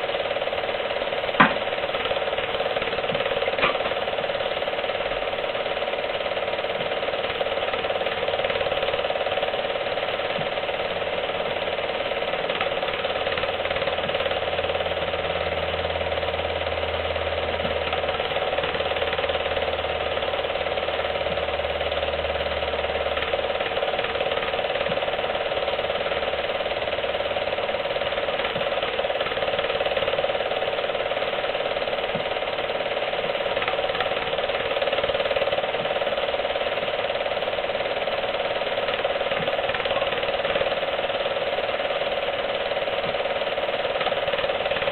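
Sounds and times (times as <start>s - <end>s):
film projector clattering whirr: 0.0s - 44.9s.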